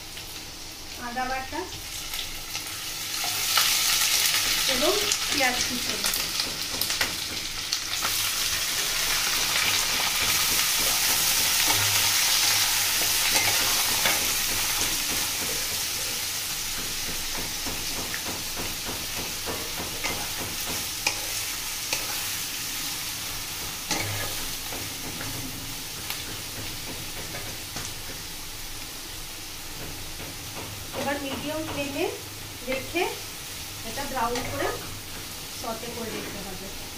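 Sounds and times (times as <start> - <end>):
onions sizzling in oil: 0.0 - 36.9.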